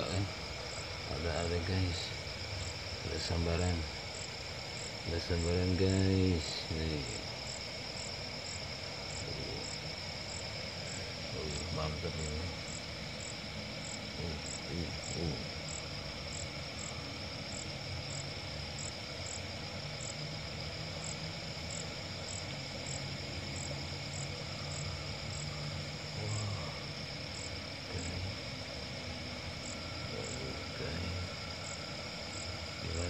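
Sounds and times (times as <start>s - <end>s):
frogs: 0.0s - 33.0s
insects trilling: 0.0s - 33.0s.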